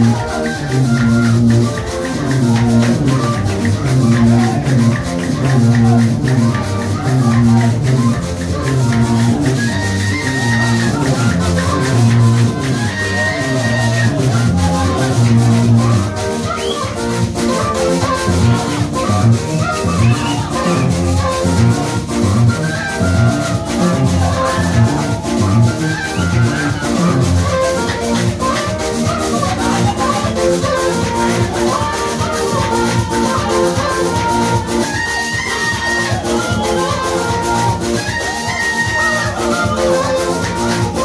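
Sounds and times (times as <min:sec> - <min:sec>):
gospel band music: 0:00.0 - 0:41.0.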